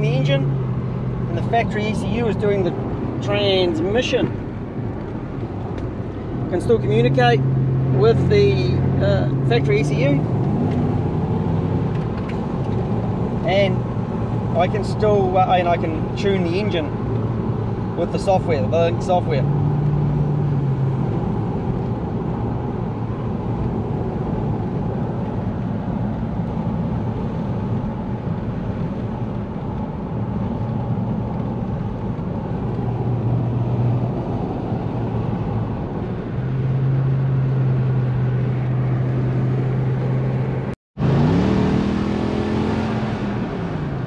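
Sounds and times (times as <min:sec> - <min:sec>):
car engine: 0:00.0 - 0:44.0
road noise: 0:00.0 - 0:44.0.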